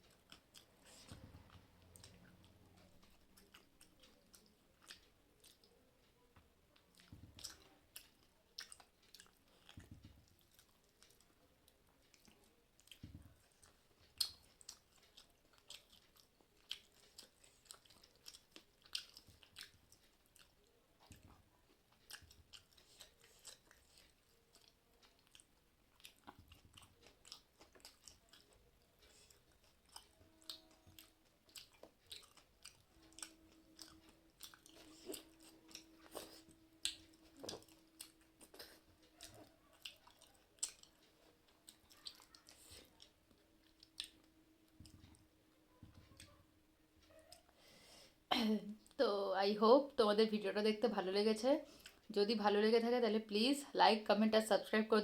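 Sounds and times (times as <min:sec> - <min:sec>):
person chewing food: 0:00.0 - 0:49.0, 0:51.6 - 0:52.1
faint steady hum: 0:00.0 - 0:55.0.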